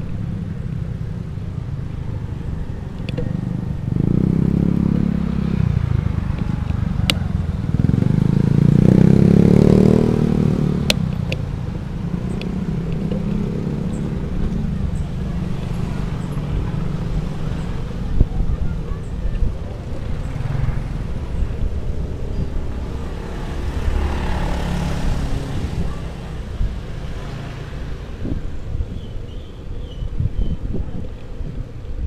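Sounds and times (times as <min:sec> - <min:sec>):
motorcycle engines passing: 0:00.0 - 0:32.0
wind and road rumble: 0:00.0 - 0:32.0.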